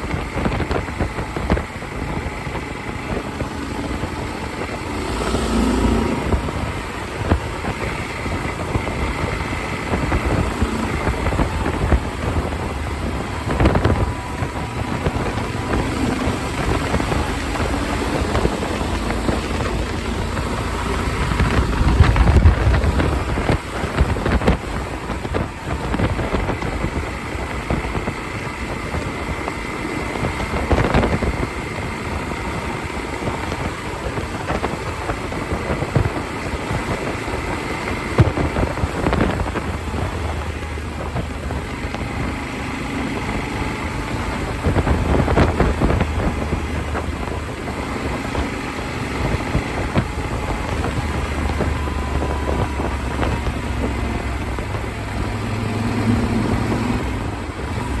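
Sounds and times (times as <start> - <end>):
vehicle running noise: 0.0 - 58.0
wind buffeting microphone: 0.0 - 58.0.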